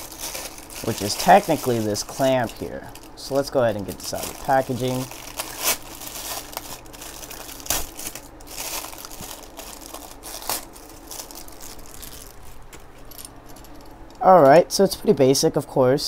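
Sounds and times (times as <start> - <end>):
plastic bag crinkling: 0.0 - 13.7.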